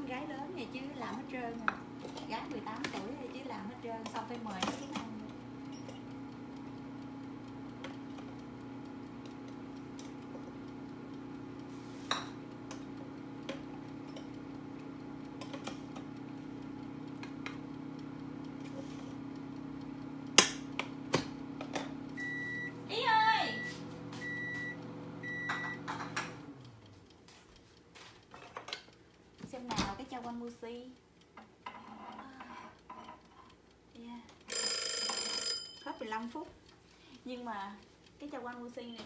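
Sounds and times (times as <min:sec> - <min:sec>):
low kitchen hum: 0:00.0 - 0:34.4.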